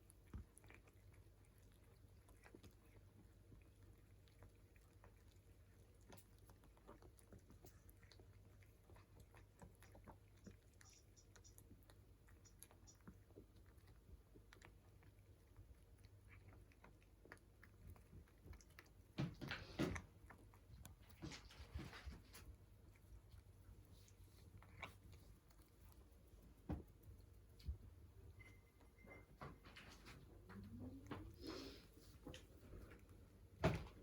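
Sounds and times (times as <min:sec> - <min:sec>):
cats chewing and biting: 0:00.0 - 0:34.0.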